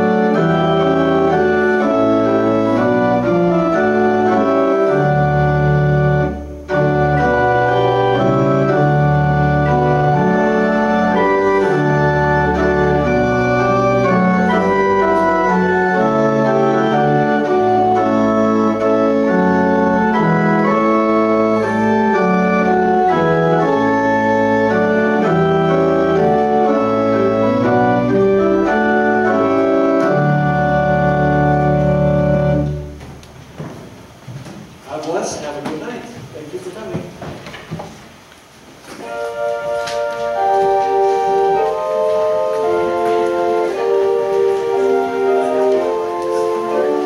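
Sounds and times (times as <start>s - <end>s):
organ playing a hymn: 0.0s - 34.3s, 38.8s - 47.0s.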